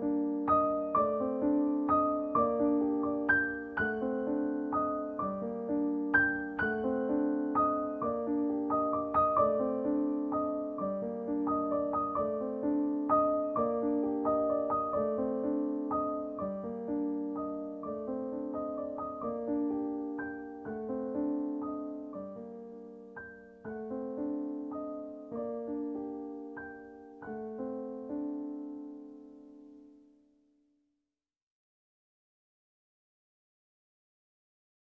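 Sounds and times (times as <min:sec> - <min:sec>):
gentle piano music: 0:00.0 - 0:30.4.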